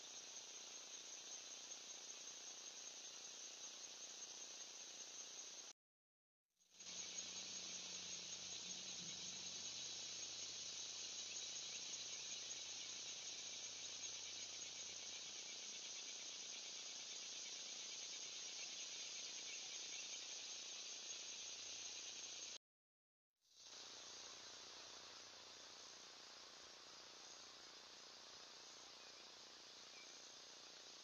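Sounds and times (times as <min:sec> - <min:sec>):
insects chirping: 0:00.0 - 0:05.7, 0:06.8 - 0:22.6, 0:23.6 - 0:31.0.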